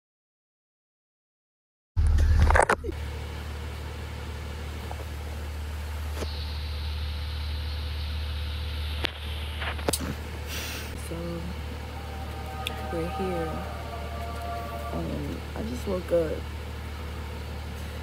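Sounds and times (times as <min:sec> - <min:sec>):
bus engine drone: 0:02.0 - 0:18.0.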